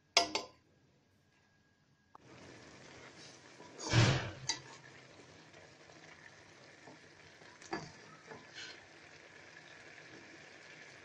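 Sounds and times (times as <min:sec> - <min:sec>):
food sizzling: 0:02.2 - 0:11.0.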